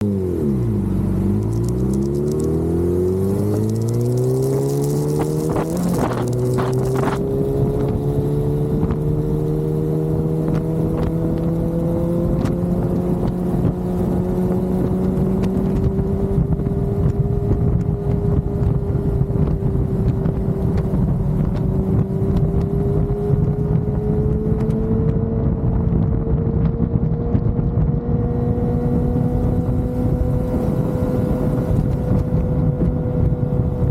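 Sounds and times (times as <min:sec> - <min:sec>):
motorcycle engine revving: 0:00.0 - 0:33.9
wind on microphone: 0:01.0 - 0:33.9.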